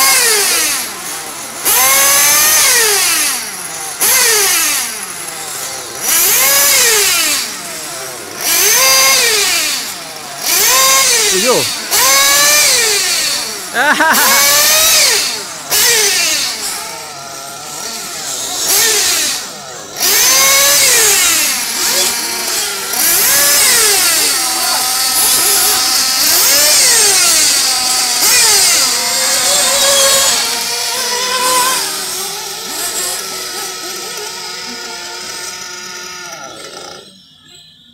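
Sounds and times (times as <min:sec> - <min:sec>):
electric toy car motors whining: 0:00.0 - 0:37.9.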